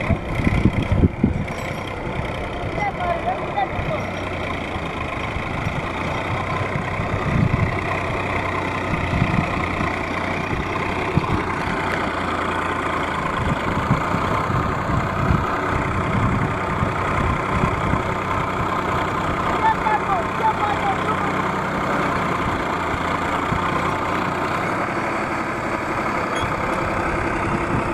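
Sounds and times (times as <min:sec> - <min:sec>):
tractor diesel engine running: 0:00.0 - 0:27.9.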